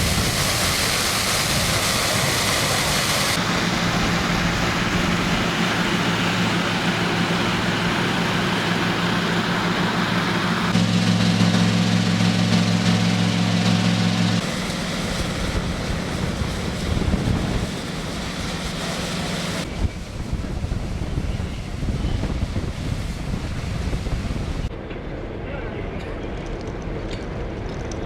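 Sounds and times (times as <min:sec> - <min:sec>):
engine hum: 0:00.0 - 0:25.2
loud rushing noise: 0:00.0 - 0:25.3.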